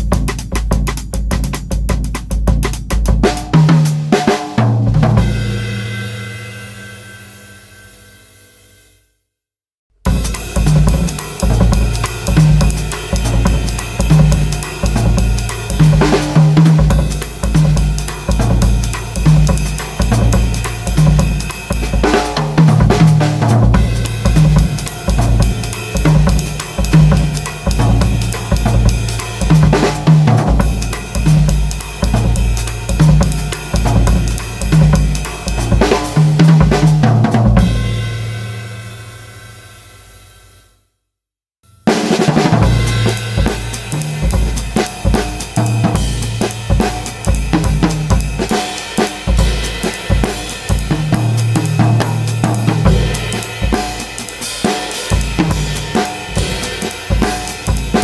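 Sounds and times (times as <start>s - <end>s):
drum kit groove: 0.0s - 7.3s, 10.0s - 40.2s, 41.7s - 58.0s.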